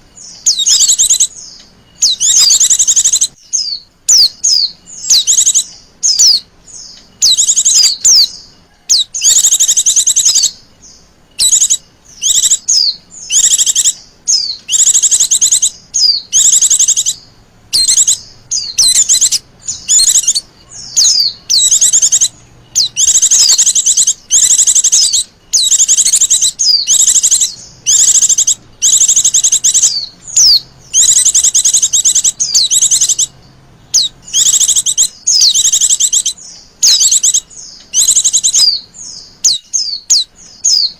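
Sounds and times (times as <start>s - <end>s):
bird high rapid trills: 0.0s - 40.9s
bird slurred chirps: 0.0s - 40.9s.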